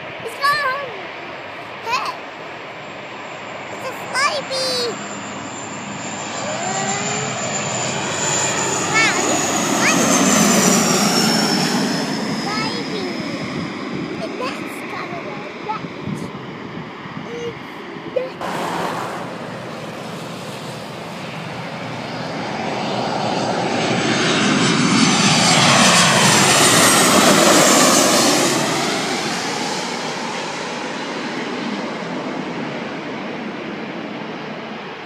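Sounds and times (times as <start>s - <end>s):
jet airliner passing overhead: 0.0s - 35.0s.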